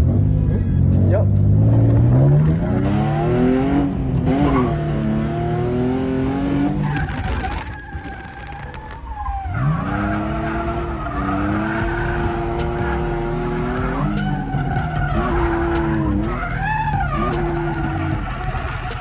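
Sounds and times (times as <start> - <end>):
car engine revving hard: 0.0 - 7.5, 9.5 - 19.0
tires skidding and squealing: 0.0 - 19.0.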